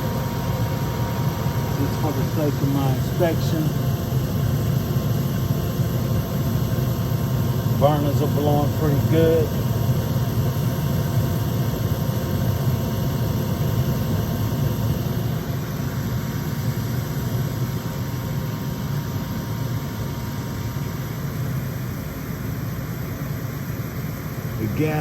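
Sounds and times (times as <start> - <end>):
draft fan humming: 0.0 - 22.1, 24.0 - 25.0
furnace burner flames rumbling: 0.0 - 25.0.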